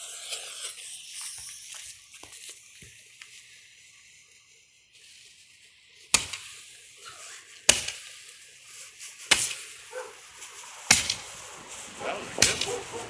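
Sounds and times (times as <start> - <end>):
firework hiss: 0.0 - 13.0
fireworks popping: 0.0 - 13.0.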